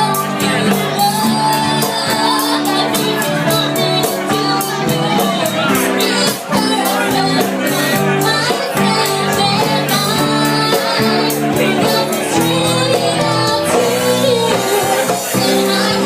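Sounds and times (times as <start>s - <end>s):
drum and cymbal hits: 0.0s - 16.0s
live band playing: 0.0s - 16.0s.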